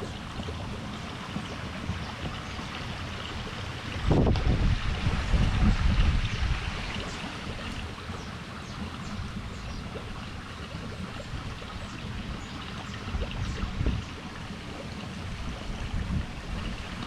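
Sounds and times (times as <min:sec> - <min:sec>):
low water splash: 0:00.0 - 0:17.0
water sloshing and trickling: 0:00.0 - 0:17.0.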